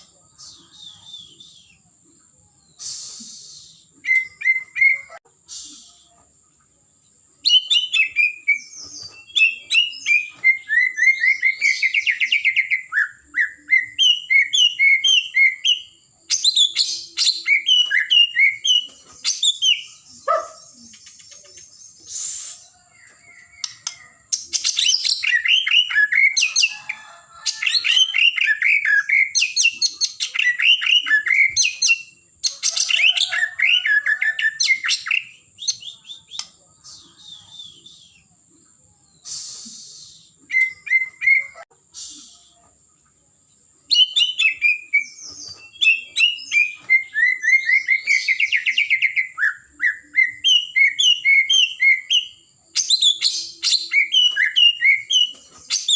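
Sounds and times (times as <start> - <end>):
bird singing whistled notes: 0.0 - 6.2, 7.4 - 27.1, 27.7 - 42.8, 43.8 - 55.9.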